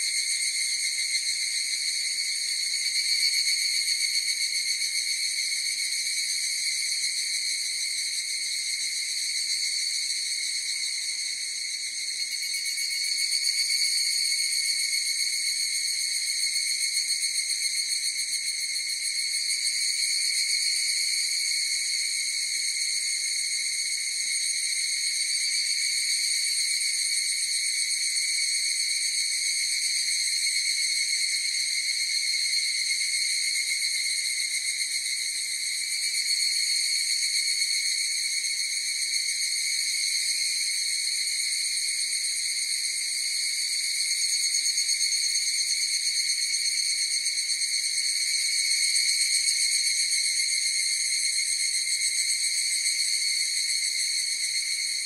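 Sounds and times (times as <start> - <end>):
cicadas trilling: 0.0 - 55.0.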